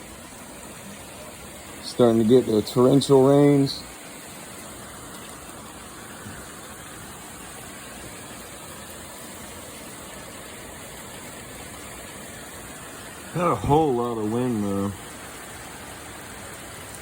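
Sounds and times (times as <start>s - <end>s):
torrential rain pouring: 0.0s - 17.0s.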